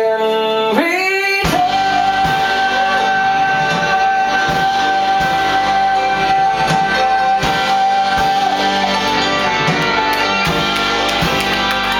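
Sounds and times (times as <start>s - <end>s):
plucked guitar: 0.7s - 11.9s.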